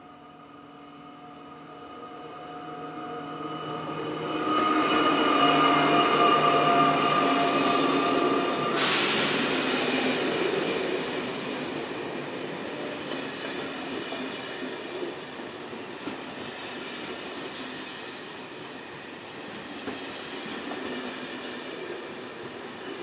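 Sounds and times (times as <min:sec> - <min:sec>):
train rolling noise: 0:00.0 - 0:23.0
train whining tones: 0:00.0 - 0:23.0.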